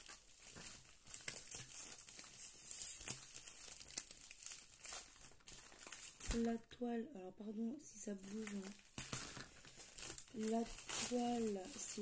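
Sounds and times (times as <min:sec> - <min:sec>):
plastic wrapping crinkling: 0:00.0 - 0:06.8, 0:07.9 - 0:12.0.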